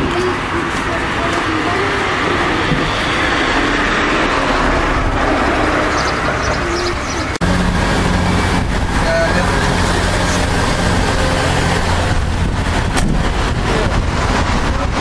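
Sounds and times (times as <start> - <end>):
outdoor vehicle engine noise: 0.0 - 15.0.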